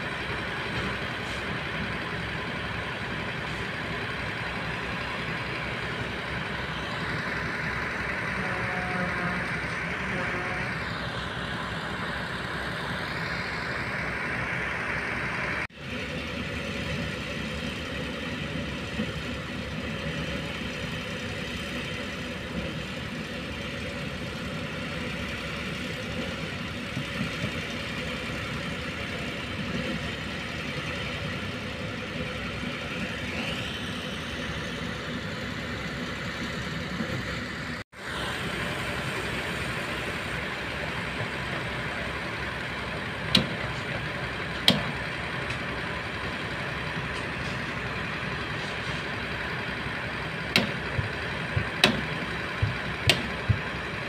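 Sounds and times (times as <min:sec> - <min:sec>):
concrete pump: 0:00.0 - 0:12.5, 0:15.7 - 0:54.0
concrete mixer truck: 0:00.0 - 0:54.0
hydraulic excavator running: 0:00.0 - 0:54.0.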